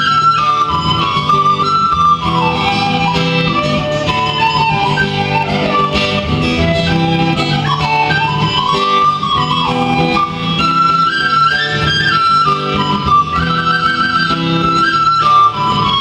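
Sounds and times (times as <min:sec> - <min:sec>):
plucked guitar: 0:00.0 - 0:16.0
wavering melody line: 0:00.0 - 0:16.0.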